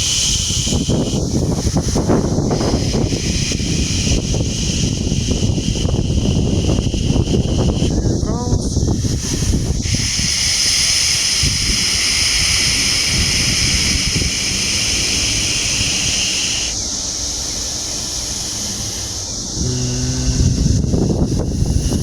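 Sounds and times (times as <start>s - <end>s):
steady high hiss: 0.0s - 22.0s
wind buffeting microphone: 0.0s - 22.0s.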